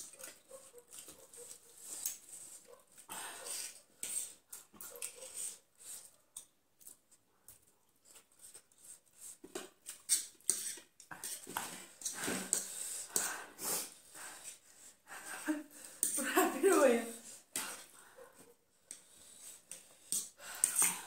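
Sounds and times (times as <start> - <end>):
chewing and slurping noodles: 0.0 - 16.0, 19.0 - 21.0.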